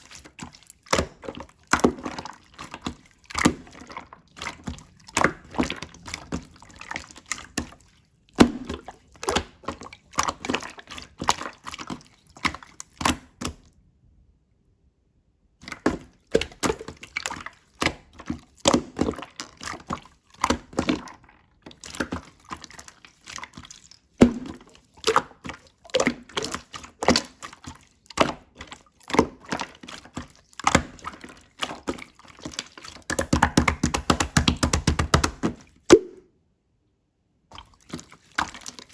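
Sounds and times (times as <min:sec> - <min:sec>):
slime squishing with wet clicks: 0:00.0 - 0:13.8, 0:15.6 - 0:36.2, 0:37.5 - 0:38.9.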